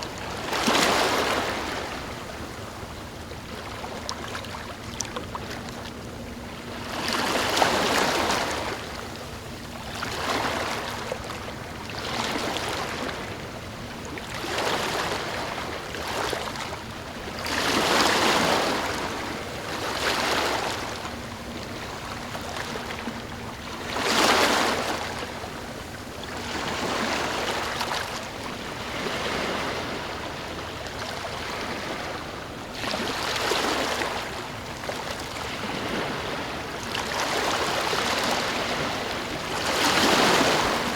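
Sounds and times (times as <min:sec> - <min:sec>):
small waves lapping: 0:00.0 - 0:40.9.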